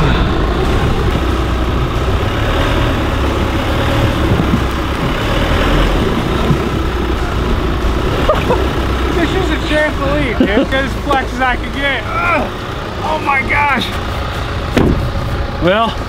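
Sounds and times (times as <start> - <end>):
truck engine running at low speed: 0.0 - 16.0.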